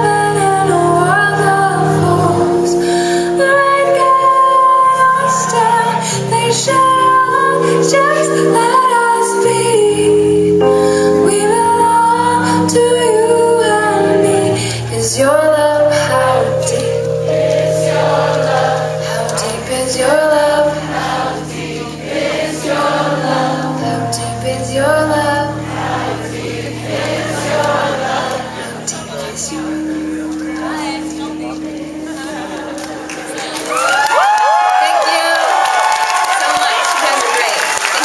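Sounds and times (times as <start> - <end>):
woman singing: 0.0 - 26.4, 27.2 - 35.5
live pop band playing: 0.0 - 35.3.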